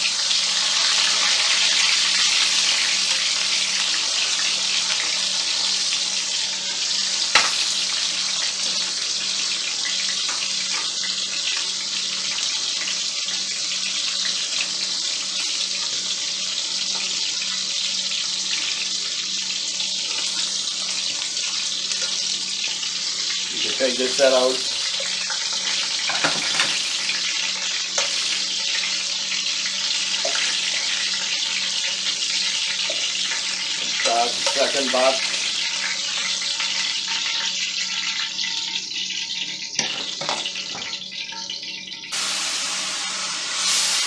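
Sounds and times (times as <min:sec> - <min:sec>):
meat sizzling in a pan: 0:00.0 - 0:44.0.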